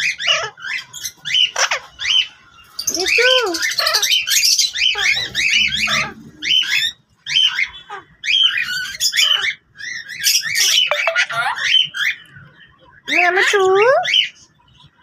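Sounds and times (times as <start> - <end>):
parrots chirping and squawking: 0.0 - 15.0.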